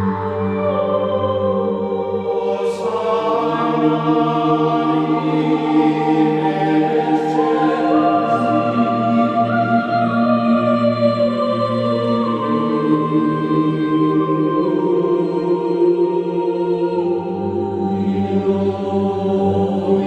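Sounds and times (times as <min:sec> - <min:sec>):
slow sustained choir-like chords: 0:00.0 - 0:20.0.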